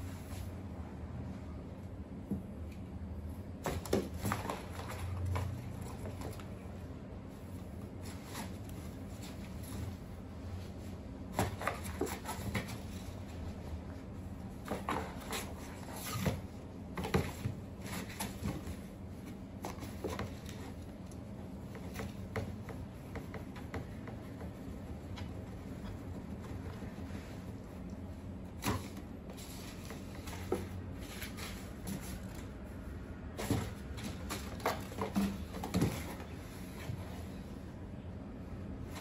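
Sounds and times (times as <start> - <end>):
steady low hum: 0.0 - 39.0
cat rustling in cardboard box: 3.5 - 37.8.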